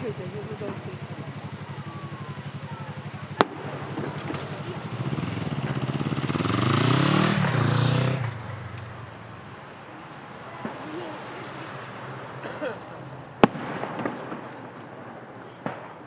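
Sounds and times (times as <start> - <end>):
vehicle driving past: 0.0 - 15.8
firework bang: 0.0 - 16.0.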